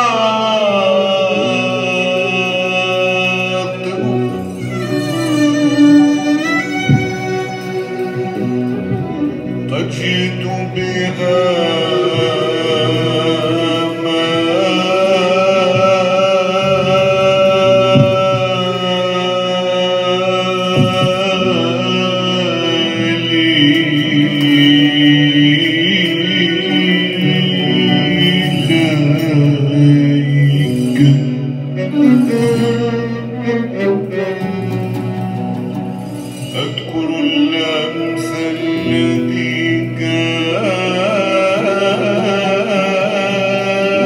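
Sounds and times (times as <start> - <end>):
oud: 0.0 - 44.0.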